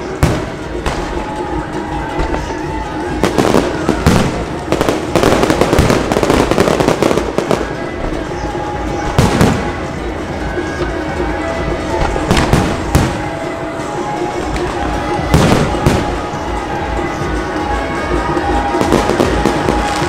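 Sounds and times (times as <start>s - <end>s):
fireworks banging and crackling: 0.0s - 20.0s
music: 0.0s - 20.0s.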